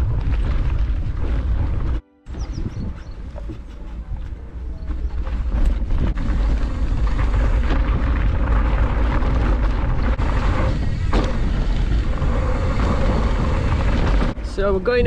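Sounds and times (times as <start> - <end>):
tyres rolling on dirt: 0.0 - 15.0
wind on microphone: 0.0 - 15.0.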